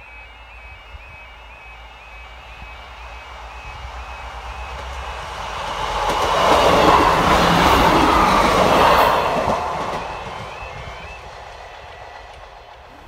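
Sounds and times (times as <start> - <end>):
level crossing warning alarm: 0.0 - 12.9
diesel train passing: 0.0 - 13.0.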